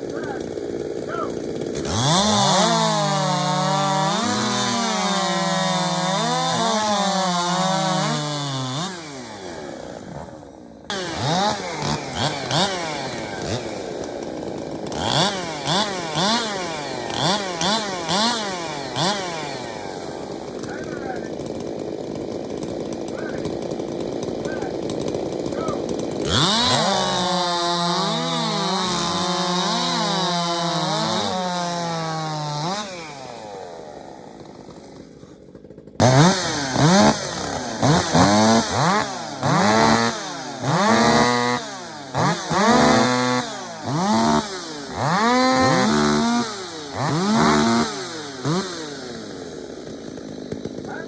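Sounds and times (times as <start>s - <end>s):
chainsaw throttle blips: 0.0s - 51.0s
race chainsaw revving: 0.0s - 51.0s.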